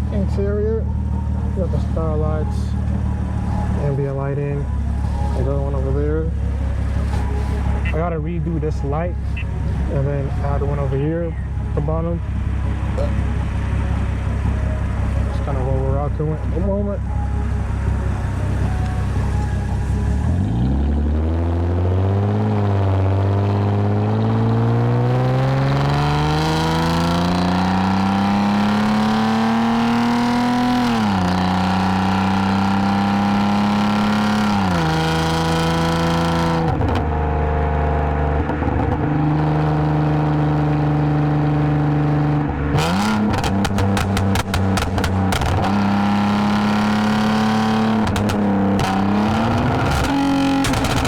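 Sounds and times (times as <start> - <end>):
car engine accelerating: 0.0 - 51.0.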